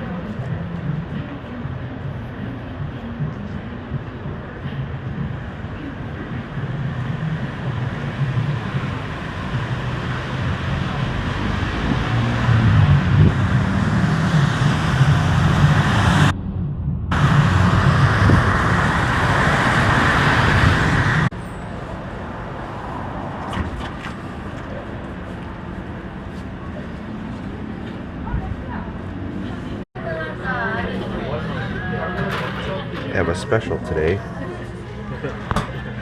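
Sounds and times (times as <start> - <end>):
quiet street background: 0.0 - 36.0
road traffic noise: 0.0 - 36.0.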